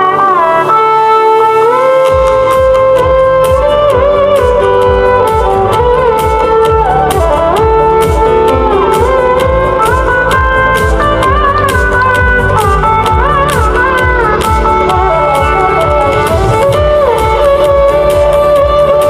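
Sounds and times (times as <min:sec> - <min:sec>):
sliding melody line: 0:00.0 - 0:19.0
steady beat: 0:01.6 - 0:19.0.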